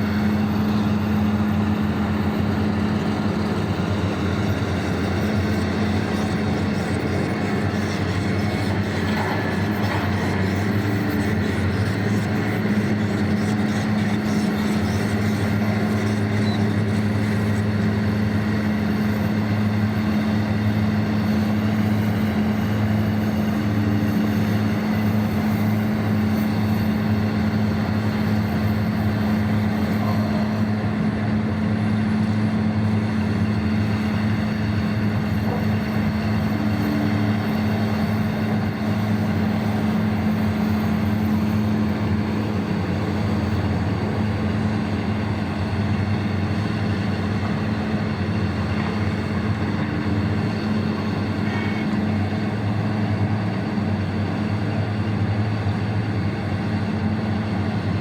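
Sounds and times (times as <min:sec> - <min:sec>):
large diesel engines humming: 0:00.0 - 0:58.0.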